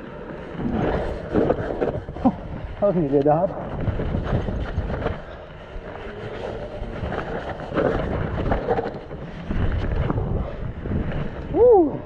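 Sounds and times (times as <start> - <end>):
bike rattling over rough ground: 0.0 - 12.0
wind on microphone: 0.0 - 12.0.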